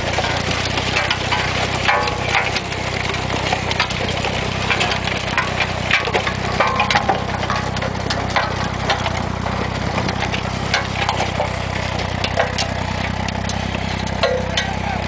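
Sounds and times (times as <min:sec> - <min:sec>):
stones clattering against metal: 0:00.0 - 0:15.0
tractor engine running: 0:00.0 - 0:15.0.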